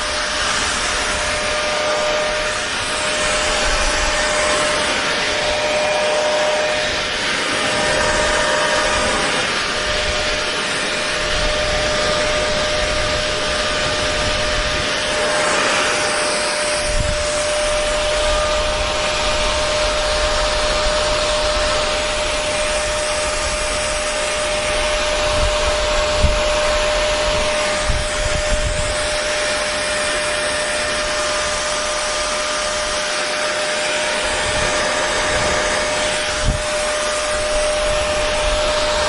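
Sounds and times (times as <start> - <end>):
hair dryer blowing with whine: 0.0 - 39.0.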